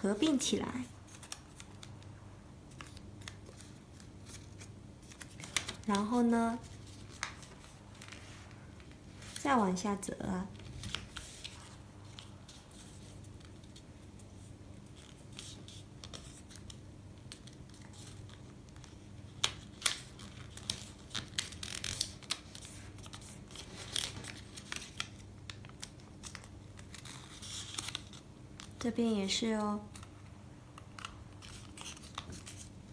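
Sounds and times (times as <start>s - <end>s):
paper being folded and creased: 0.0s - 2.0s, 2.7s - 9.6s, 10.6s - 28.9s, 30.8s - 32.9s.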